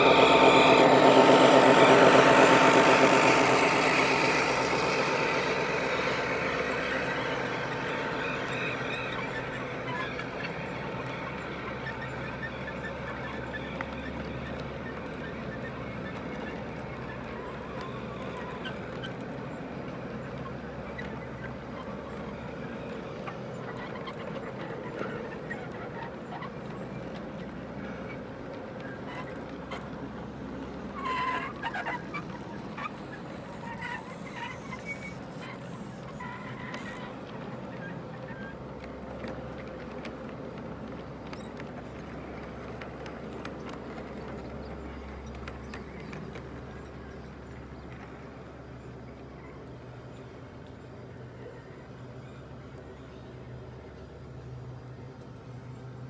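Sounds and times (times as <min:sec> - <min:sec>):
clicks over rail joints: 0:00.0 - 0:56.0
model train wheels rumbling on rail: 0:00.0 - 0:56.0.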